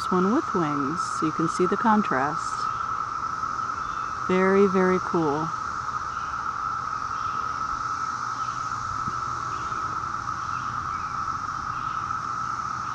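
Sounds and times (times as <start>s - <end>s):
cicadas droning: 0.0s - 12.9s.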